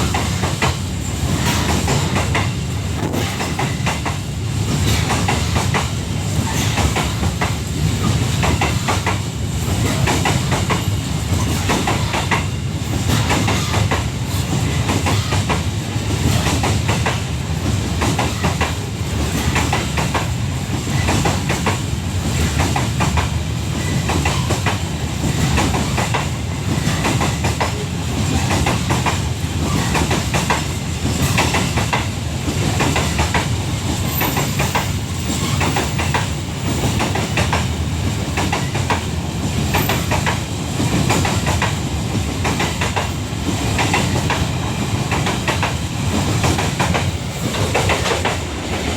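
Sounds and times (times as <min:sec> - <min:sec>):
low rumble of train: 0:00.0 - 0:48.9
train wheels clattering over rail joints: 0:00.0 - 0:48.9.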